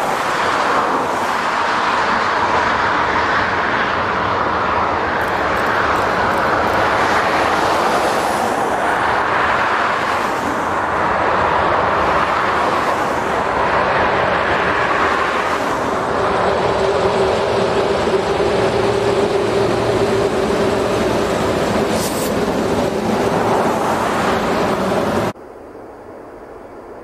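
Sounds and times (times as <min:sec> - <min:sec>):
train wheels rumbling on rail: 0:00.0 - 0:25.4.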